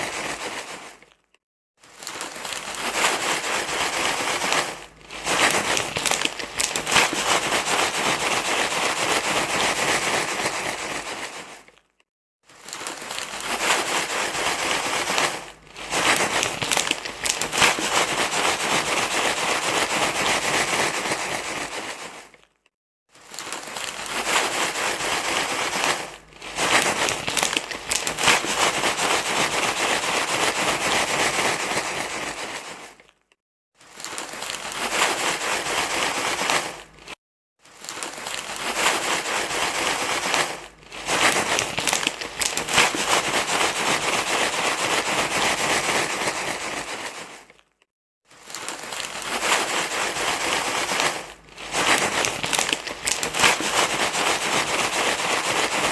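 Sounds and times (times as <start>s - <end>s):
crinkly material rustling: 0.0s - 55.9s.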